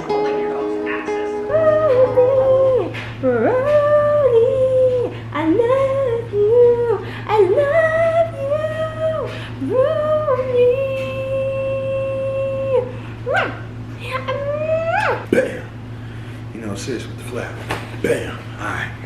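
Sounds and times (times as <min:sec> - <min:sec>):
woman singing wordless notes: 0:00.0 - 0:15.3.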